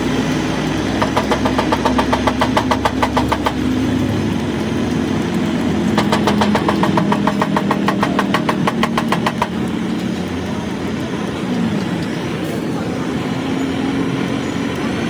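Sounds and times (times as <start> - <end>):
machine drone: 0.0 - 15.0
rapid ticking: 0.0 - 15.0.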